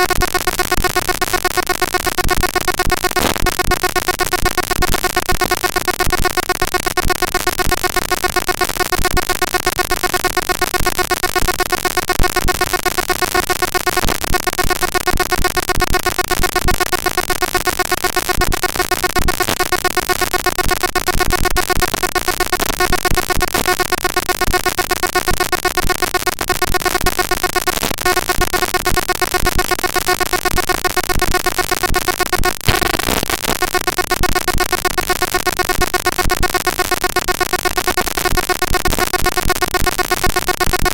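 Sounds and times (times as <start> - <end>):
harsh digital buzz with tones: 0.0 - 40.9.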